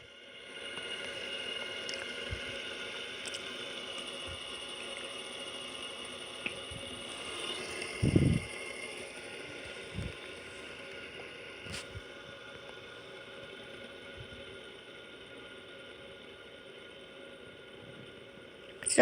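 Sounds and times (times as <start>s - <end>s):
fidget spinner whirring: 0.0s - 19.0s.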